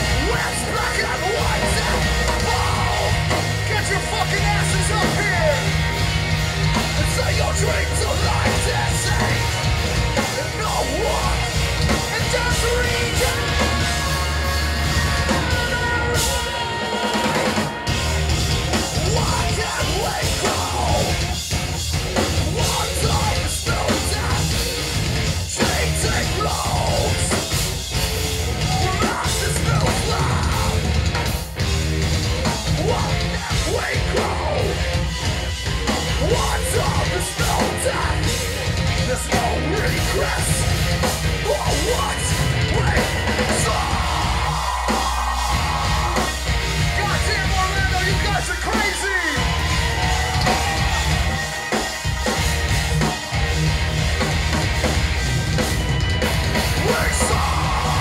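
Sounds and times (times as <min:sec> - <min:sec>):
distorted guitars and drums: 0:00.0 - 0:58.0
singer yelling and singing: 0:00.0 - 0:58.0.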